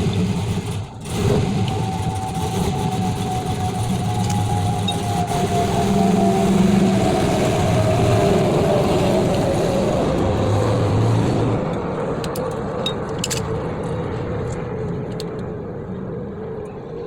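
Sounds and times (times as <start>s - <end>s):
vehicle engine running: 0.0s - 15.1s.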